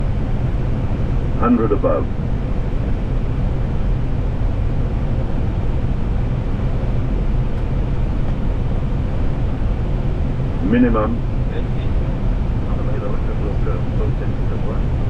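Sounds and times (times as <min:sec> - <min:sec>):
cockpit air and engine rumble: 0:00.0 - 0:15.0
faint steady hum: 0:00.0 - 0:15.0.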